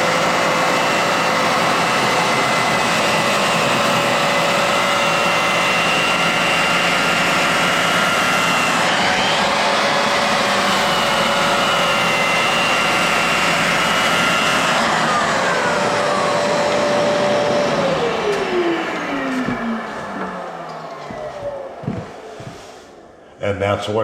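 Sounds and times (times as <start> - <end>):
floor edger sanding: 0.0 - 23.2
motor winding down: 0.0 - 23.2.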